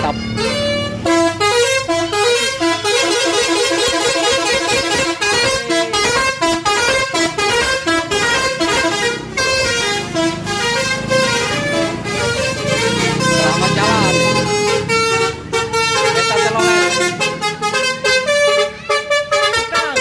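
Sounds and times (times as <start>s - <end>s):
bus horn playing melody: 0.0s - 20.0s.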